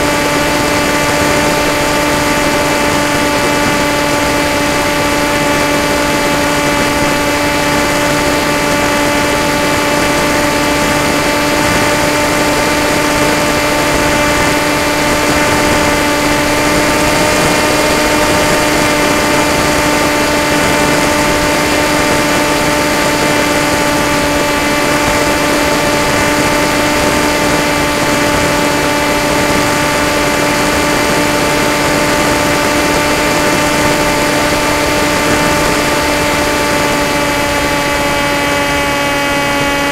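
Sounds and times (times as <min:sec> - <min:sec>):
electric motor and propeller whirring: 0:00.0 - 0:39.9
wind rush: 0:00.0 - 0:39.9.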